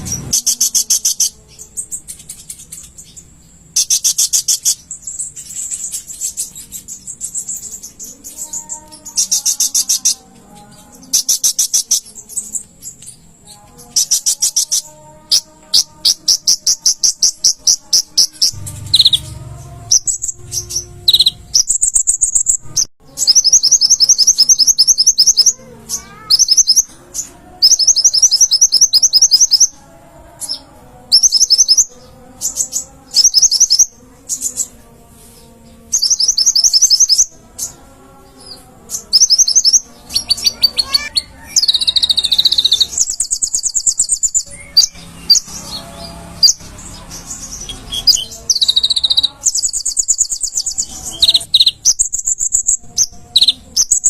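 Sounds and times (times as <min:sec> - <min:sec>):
bird singing high-pitched trills: 0:00.0 - 0:29.8, 0:30.4 - 0:34.8, 0:35.8 - 0:54.0.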